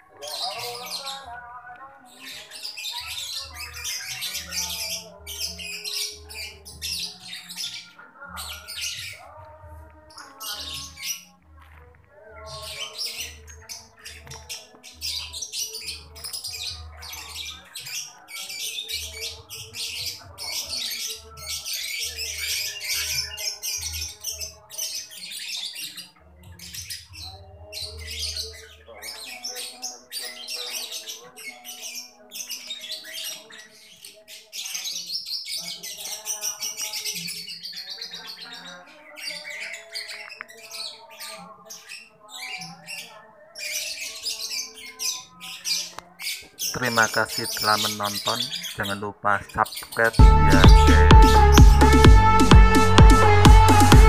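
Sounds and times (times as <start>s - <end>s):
small birds chirping: 0.0s - 52.4s.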